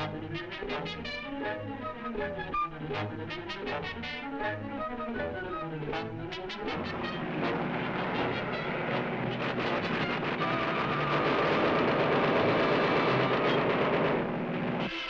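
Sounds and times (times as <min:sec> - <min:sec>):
propeller aeroplane droning: 0:00.0 - 0:14.8.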